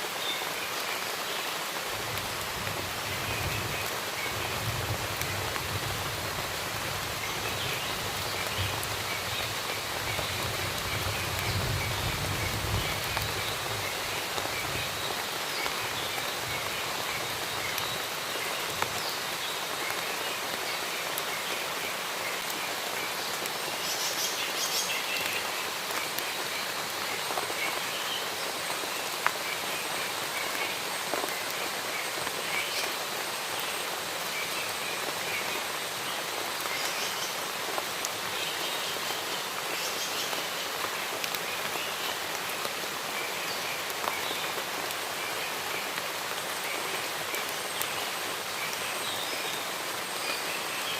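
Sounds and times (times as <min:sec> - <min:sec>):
rain on foliage: 0:00.0 - 0:50.9.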